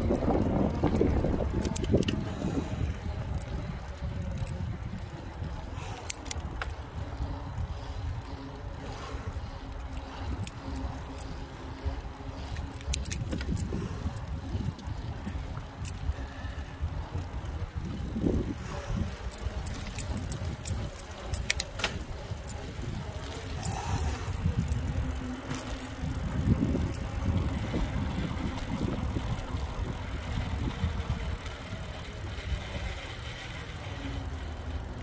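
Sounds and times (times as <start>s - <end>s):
bike rattling clicks: 0.0s - 35.0s
wind and tyre rumble: 0.0s - 35.0s.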